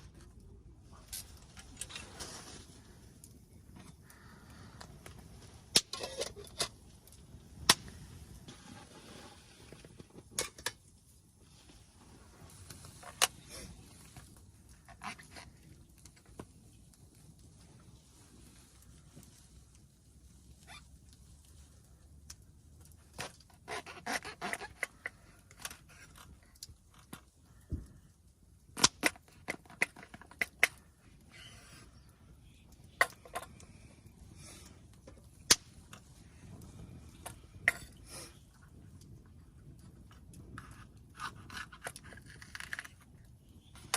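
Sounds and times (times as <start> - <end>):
small objects clicking and scraping: 0.0 - 10.9, 11.6 - 17.7, 20.5 - 28.0, 28.7 - 43.9.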